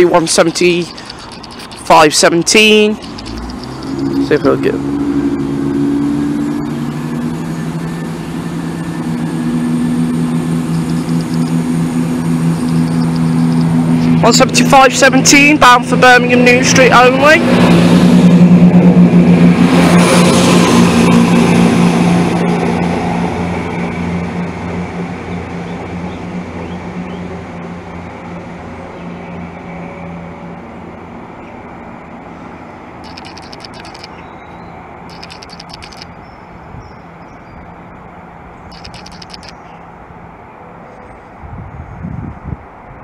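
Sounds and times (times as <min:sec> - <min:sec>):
diesel train engine droning: 0:00.0 - 0:41.4.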